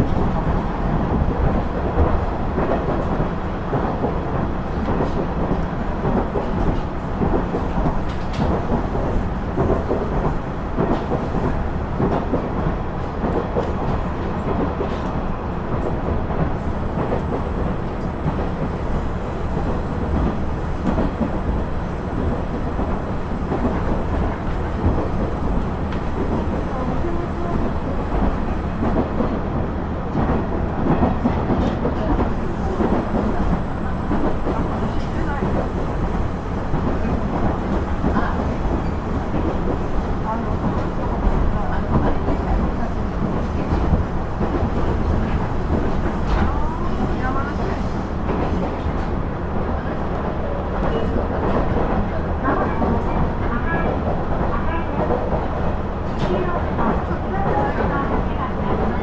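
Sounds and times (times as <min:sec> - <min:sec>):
diesel railcar engine rumble: 0:00.0 - 0:59.0.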